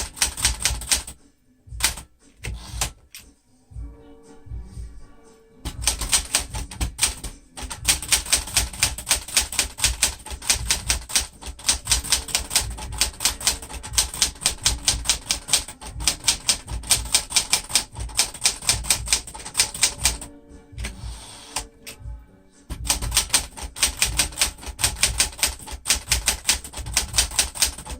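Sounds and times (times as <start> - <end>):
manual typewriter clacking: 0.0 - 1.2, 1.8 - 3.0, 5.7 - 22.0, 22.7 - 27.9.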